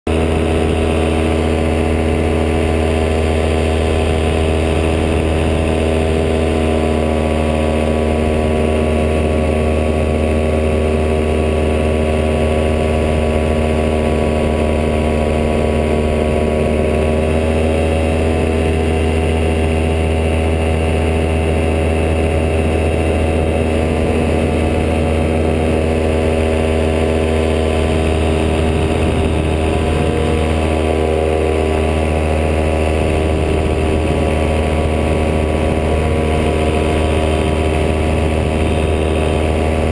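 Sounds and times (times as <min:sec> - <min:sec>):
paramotor engine and propeller: 0:00.1 - 0:39.9.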